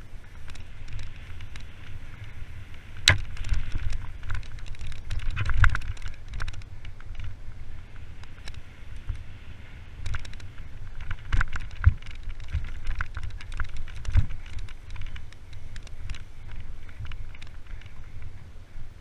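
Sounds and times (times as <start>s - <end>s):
wheels knocking on bumps: 0.0s - 9.3s, 9.9s - 18.5s
bike clattering and rattling: 0.0s - 19.0s
wind rumble on microphone: 0.0s - 19.0s.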